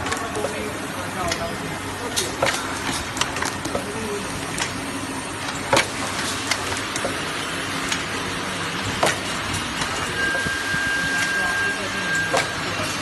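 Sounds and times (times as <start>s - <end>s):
printing machine running: 0.0s - 13.0s.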